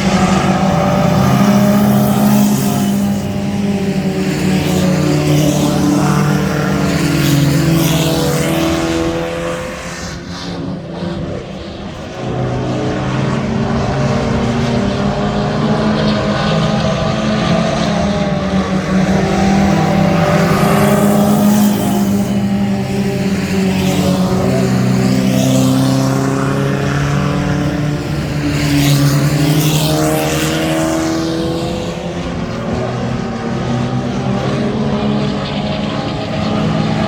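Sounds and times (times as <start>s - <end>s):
mini truck engines revving: 0.0s - 37.0s.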